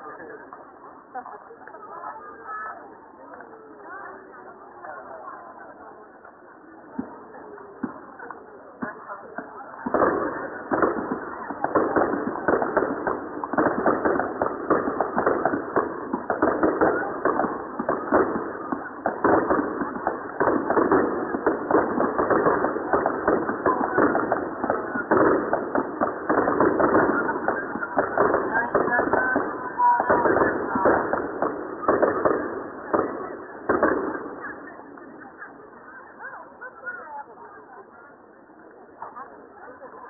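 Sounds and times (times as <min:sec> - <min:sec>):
fireworks crackling: 0:05.6 - 0:37.8.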